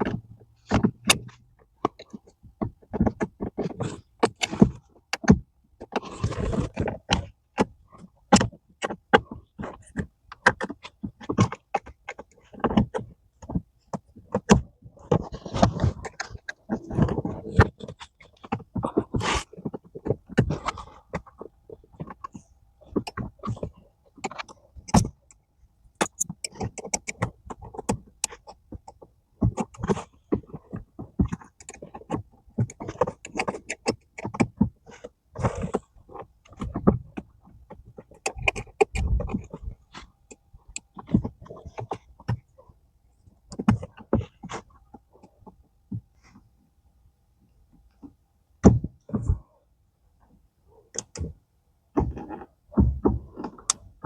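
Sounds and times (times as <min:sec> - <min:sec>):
pedal cover scraping and clicking: 0:00.0 - 0:25.4, 0:26.0 - 0:42.6, 0:43.3 - 0:46.4, 0:50.9 - 0:54.0.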